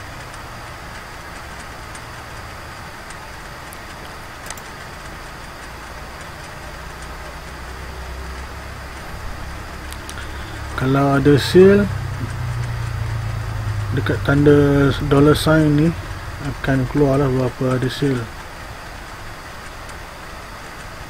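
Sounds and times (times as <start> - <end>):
faint clicks: 0.0 - 21.0
low background hum and hiss: 0.0 - 21.0.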